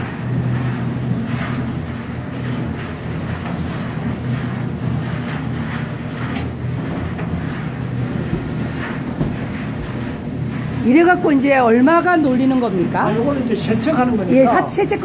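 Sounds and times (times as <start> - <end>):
rotary drum machine droning: 0.0 - 15.0.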